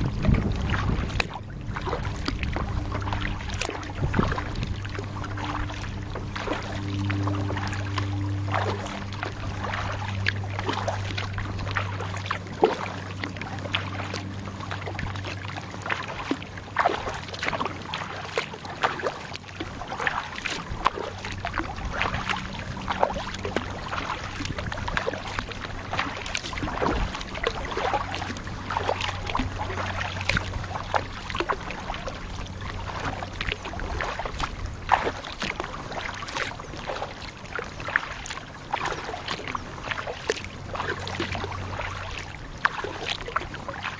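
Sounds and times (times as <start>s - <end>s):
kayak paddle splashing: 0.0s - 43.9s
low steady hum: 0.0s - 43.9s.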